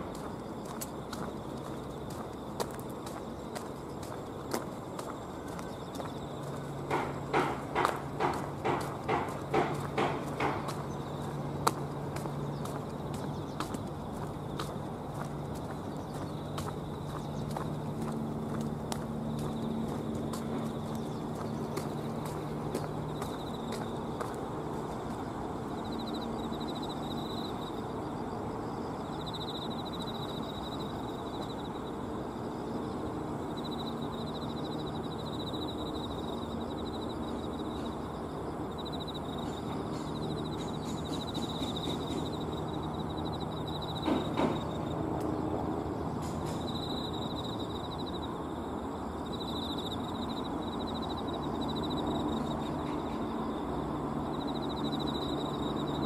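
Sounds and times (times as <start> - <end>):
distant traffic: 0.0 - 56.0.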